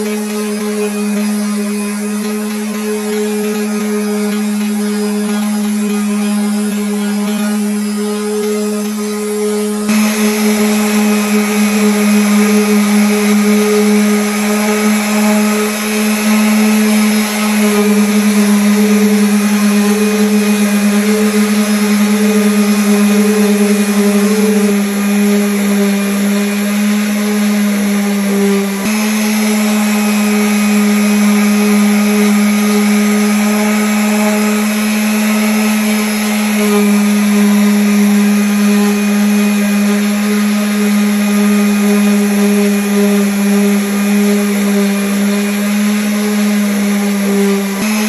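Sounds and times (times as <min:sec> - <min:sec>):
electric sander on wood: 0:00.0 - 0:48.0.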